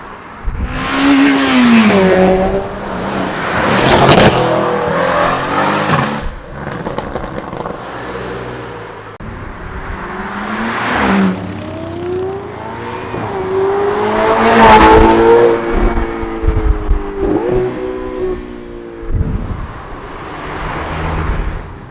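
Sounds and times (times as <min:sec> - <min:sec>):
cars accelerating past: 0:00.4 - 0:21.8.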